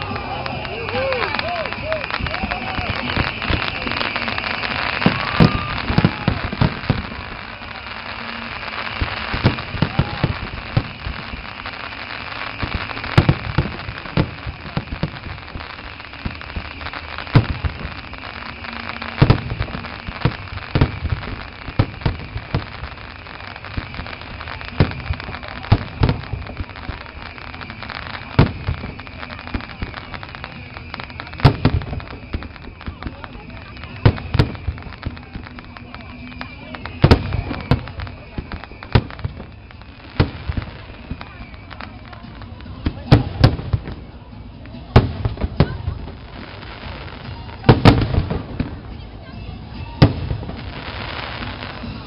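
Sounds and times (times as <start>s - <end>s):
fireworks booming: 0.0s - 52.0s.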